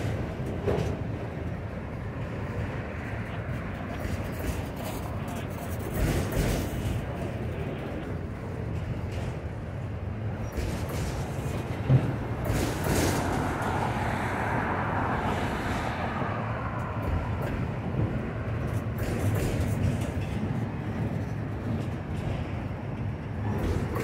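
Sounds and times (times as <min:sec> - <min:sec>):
freight train wheels on rail: 0:00.0 - 0:24.0.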